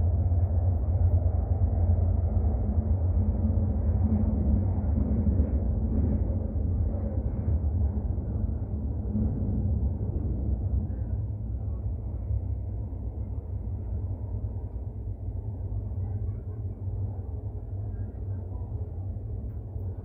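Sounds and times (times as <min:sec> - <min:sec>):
metro train rumbling: 0:00.0 - 0:20.0.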